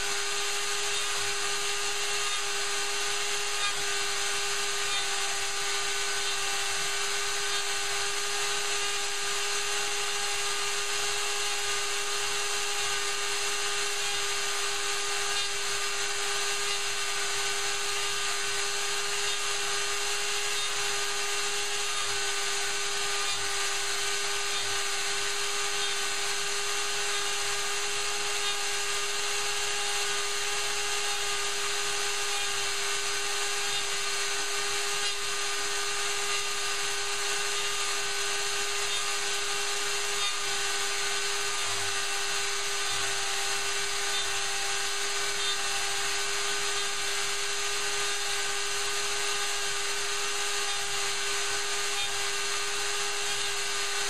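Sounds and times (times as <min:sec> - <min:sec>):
router milling wood: 0:00.0 - 0:54.0.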